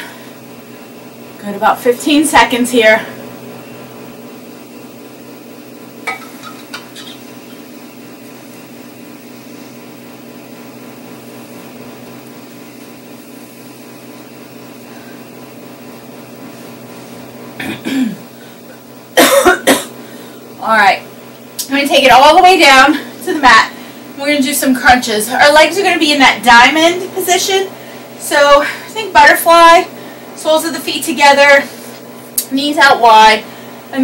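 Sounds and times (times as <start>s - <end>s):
low room hum: 0.0s - 34.0s.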